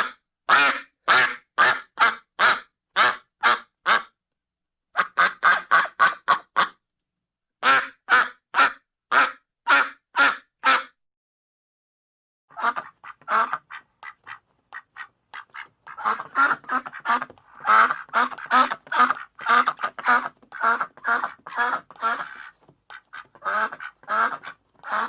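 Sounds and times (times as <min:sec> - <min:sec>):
duck quacking: 0:00.0 - 0:04.1, 0:05.0 - 0:06.8, 0:07.6 - 0:11.0, 0:12.5 - 0:25.0.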